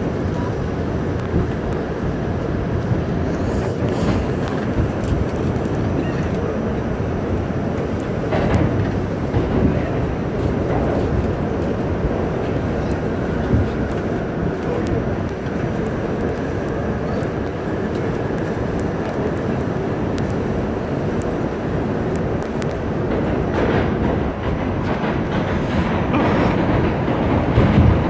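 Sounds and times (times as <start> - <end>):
subway train wheels rumbling: 0.0 - 28.0.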